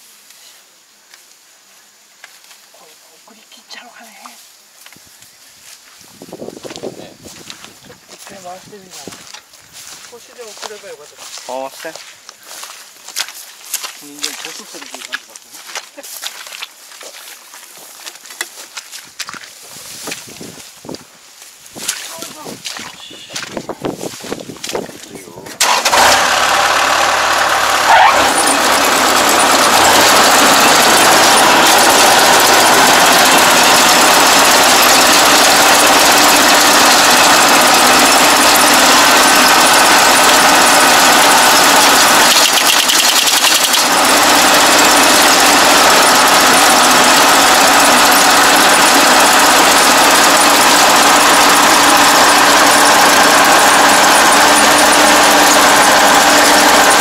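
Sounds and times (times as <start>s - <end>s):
combine harvester running: 5.6s - 57.0s.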